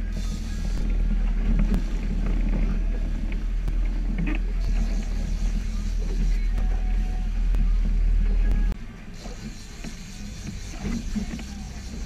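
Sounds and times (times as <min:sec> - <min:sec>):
motorboat engine rumble: 0:00.0 - 0:12.0.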